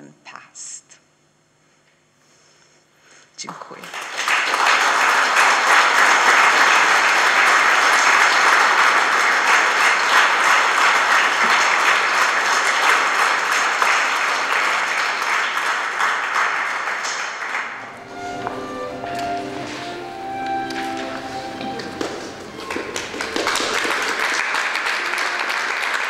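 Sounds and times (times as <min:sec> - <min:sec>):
audience applauding: 0:03.7 - 0:26.0.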